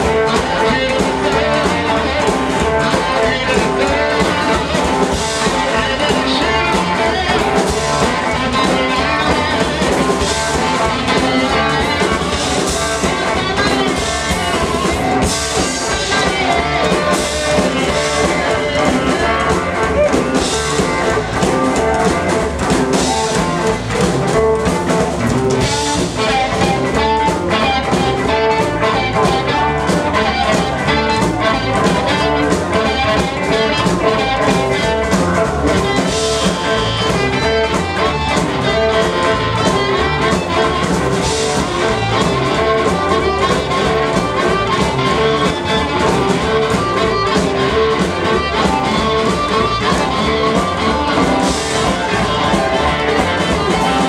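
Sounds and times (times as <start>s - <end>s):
drums: 0.0s - 54.0s
electric guitar: 0.0s - 54.0s
harmonica: 0.0s - 54.0s
upright double bass: 0.0s - 54.0s.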